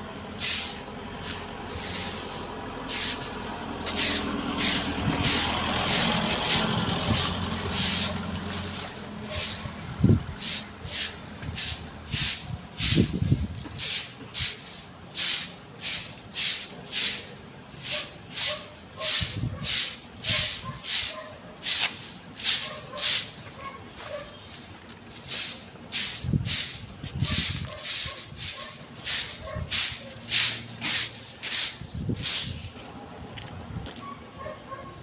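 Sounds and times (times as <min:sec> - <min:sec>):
stick broom sweeping clippings: 0:00.2 - 0:32.9.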